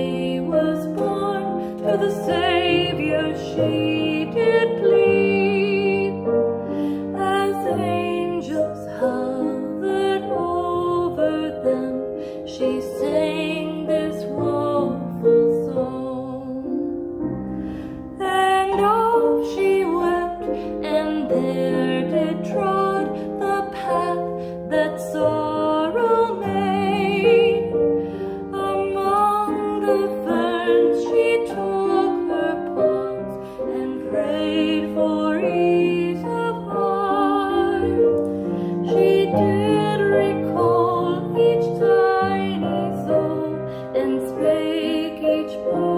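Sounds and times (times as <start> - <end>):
woman singing with vibrato: 0.0 - 6.4, 7.0 - 16.9, 18.2 - 27.8, 28.5 - 38.2, 38.8 - 45.9
piano accompaniment: 0.0 - 45.9.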